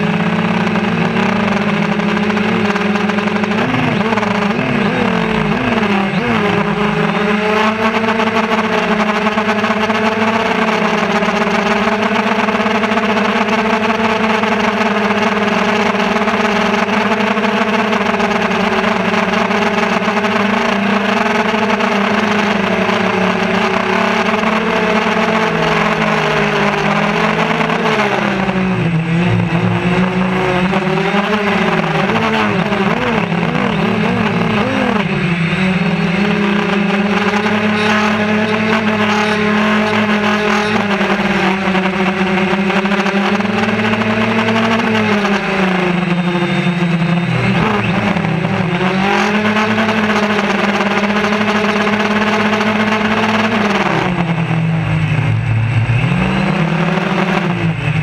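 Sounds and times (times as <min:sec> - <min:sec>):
drone propellers whirring: 0:00.0 - 0:58.0.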